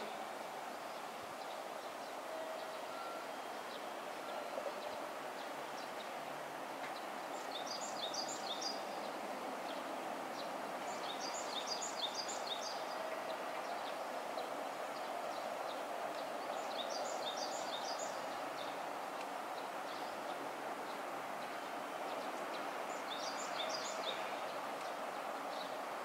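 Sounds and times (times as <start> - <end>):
distant train rumble: 0.0 - 26.0.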